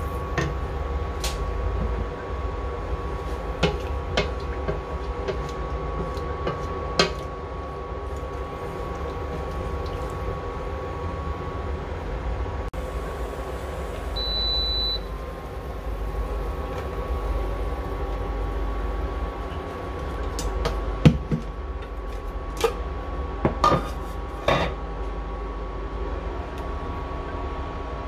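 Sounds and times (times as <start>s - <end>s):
induction cooktop humming: 0.0s - 28.0s.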